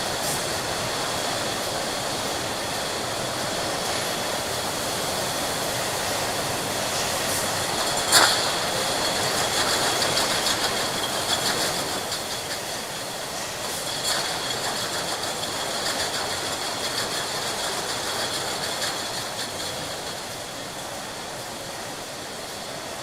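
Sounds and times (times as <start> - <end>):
high-pitched machine whine: 0.0 - 22.6.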